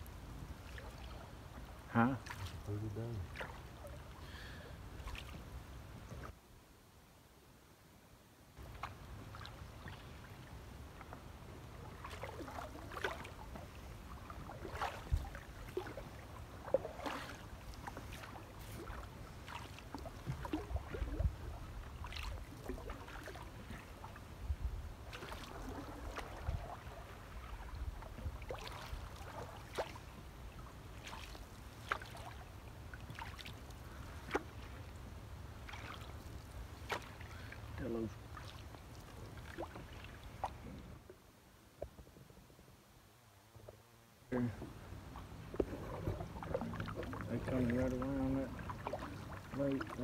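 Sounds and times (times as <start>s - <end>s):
paddle dips and splashes: 0.0s - 6.4s, 8.6s - 41.9s, 43.6s - 50.0s.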